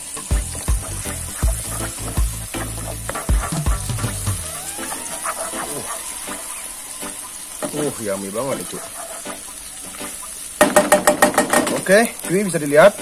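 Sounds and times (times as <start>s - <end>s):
background music: 0.0s - 13.0s
food sizzling in hot oil: 0.0s - 13.0s.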